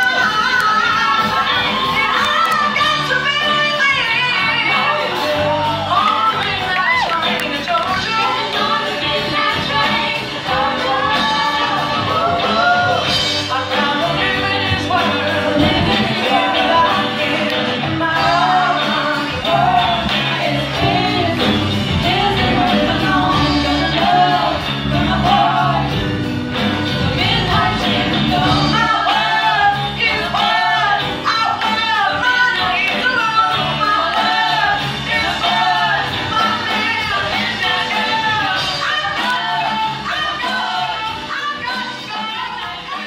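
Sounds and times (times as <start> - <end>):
woman singing into microphone: 0.0 - 26.0, 27.1 - 43.0
backing singers: 0.0 - 43.0
drum kit: 0.0 - 43.0
electric guitars: 0.0 - 43.0.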